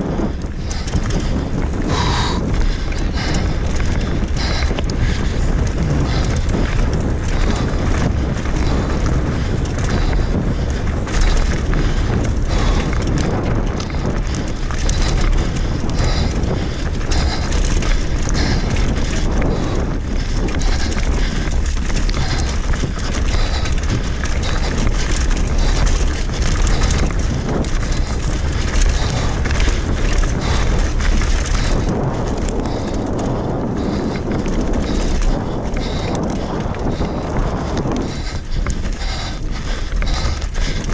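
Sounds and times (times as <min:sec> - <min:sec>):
bike rattling over bumps: 0:00.0 - 0:40.9
tyres crunching over loose stones: 0:00.0 - 0:40.9
wind buffeting microphone: 0:00.0 - 0:40.9.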